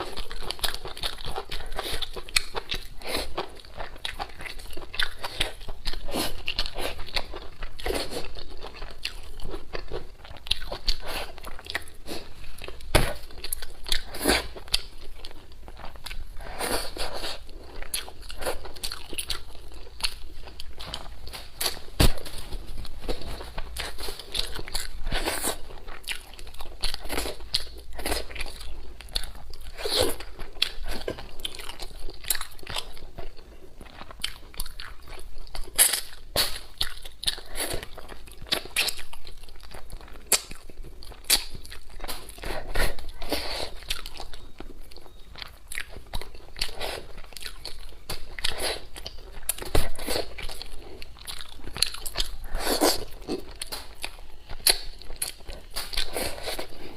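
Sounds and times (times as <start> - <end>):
crunching and chewing food: 0.0 - 56.9.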